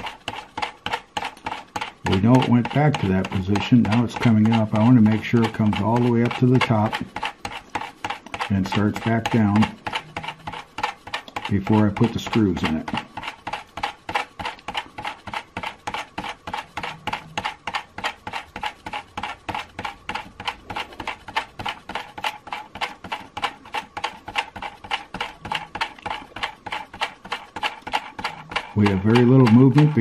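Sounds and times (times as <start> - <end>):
small electric toy motor clicking: 0.0 - 30.0.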